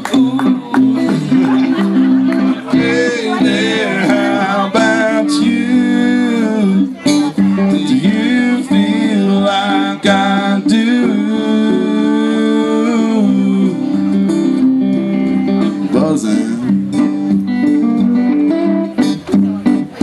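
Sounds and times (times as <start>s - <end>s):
acoustic guitar: 0.0s - 20.0s
electric guitar: 0.0s - 20.0s.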